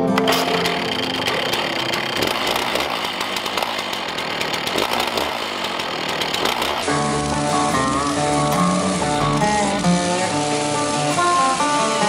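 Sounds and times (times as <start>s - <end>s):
chainsaw cutting log: 0.1s - 12.0s.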